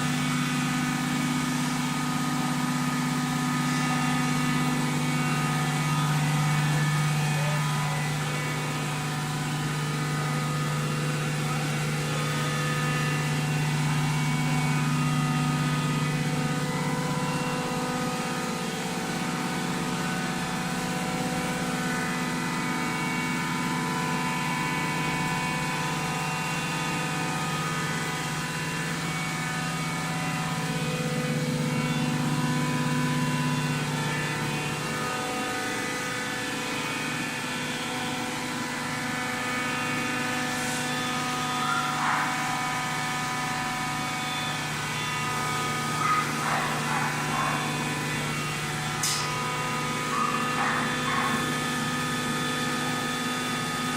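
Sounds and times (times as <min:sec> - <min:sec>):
baler motor humming: 0:00.0 - 0:53.9.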